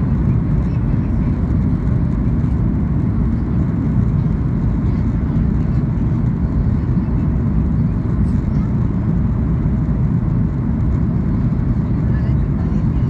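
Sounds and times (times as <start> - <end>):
airplane cabin roar: 0.0 - 13.0.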